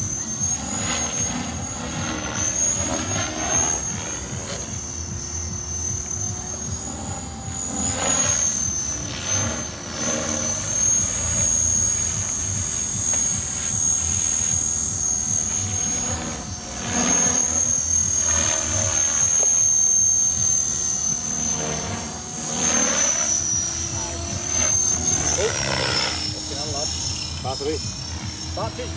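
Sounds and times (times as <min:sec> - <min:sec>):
model helicopter high-pitched whine: 0:00.0 - 0:28.9.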